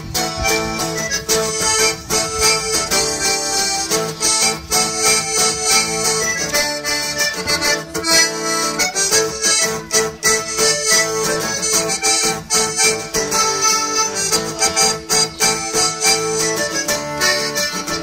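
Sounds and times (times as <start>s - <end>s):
accordion playing folk tune: 0.0s - 18.0s
strummed acoustic guitar: 0.0s - 18.0s.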